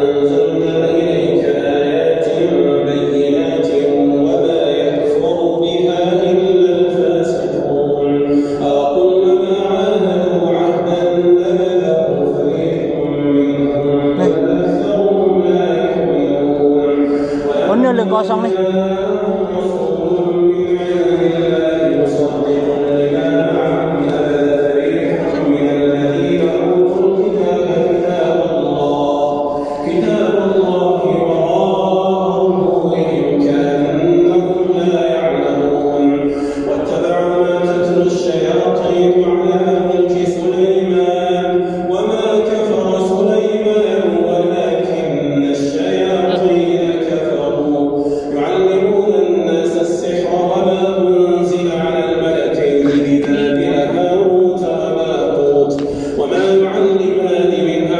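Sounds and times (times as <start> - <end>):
man chanting over loudspeakers: 0.0 - 57.9.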